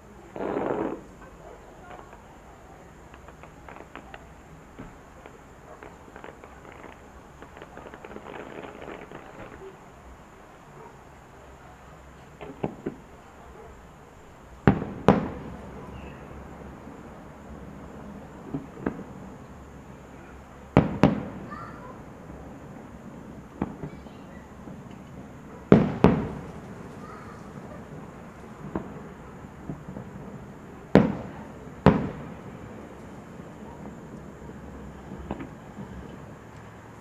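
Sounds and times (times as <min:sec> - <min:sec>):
fireworks bursting with bangs: 0:00.0 - 0:37.0.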